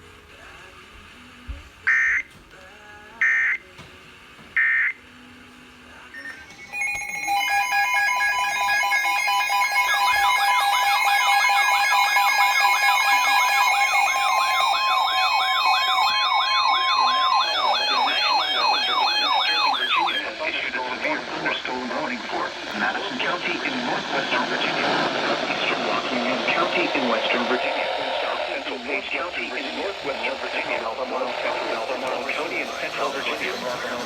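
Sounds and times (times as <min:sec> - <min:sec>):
data burst tones: 0:06.2 - 0:34.0
warbling alert signal: 0:06.2 - 0:34.0.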